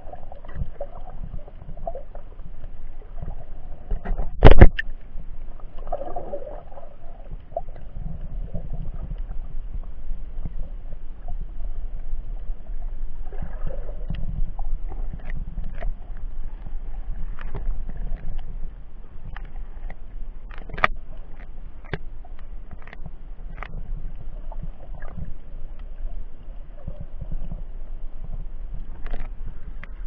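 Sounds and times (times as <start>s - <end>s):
muffled underwater water noise: 0.0s - 30.0s.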